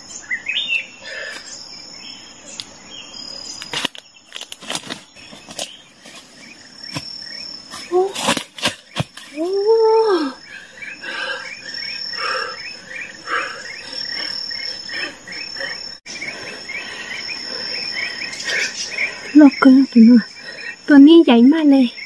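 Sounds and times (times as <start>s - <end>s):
insect chirps: 0.0s - 22.0s
insects buzzing: 0.0s - 22.0s.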